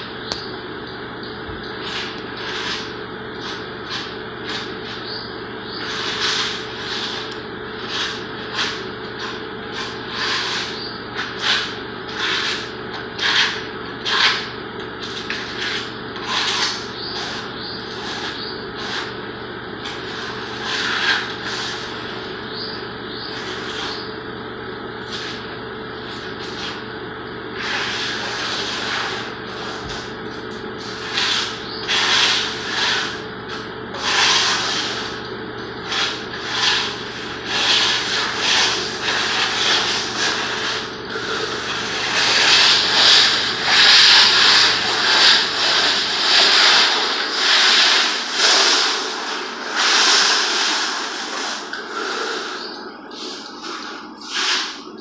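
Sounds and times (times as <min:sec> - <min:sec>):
steady low hum: 0:00.0 - 0:55.0
hand tool scraping a floor: 0:01.7 - 0:24.2, 0:25.0 - 0:26.9, 0:27.5 - 0:55.0.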